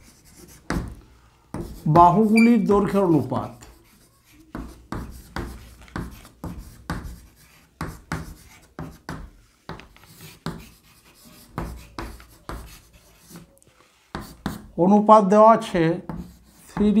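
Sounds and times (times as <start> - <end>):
pen scratching on paper: 0.0 - 14.8, 16.1 - 17.0.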